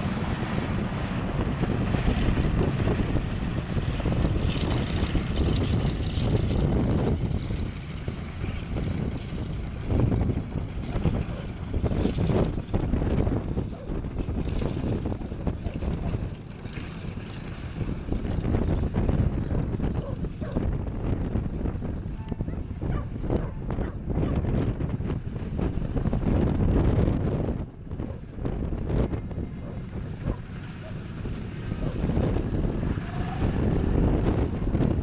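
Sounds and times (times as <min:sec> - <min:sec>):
propeller aircraft engines droning: 0:00.0 - 0:35.0.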